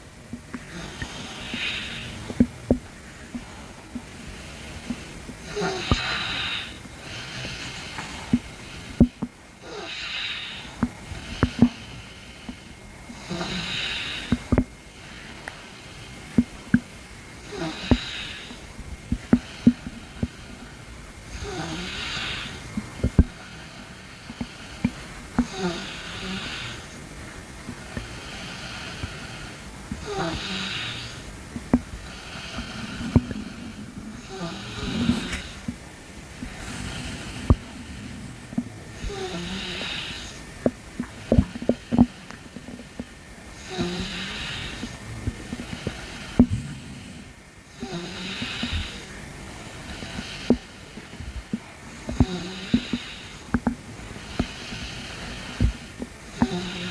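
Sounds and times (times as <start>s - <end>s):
long breaths: 0.0s - 56.9s
stomach gurgling: 0.0s - 56.9s.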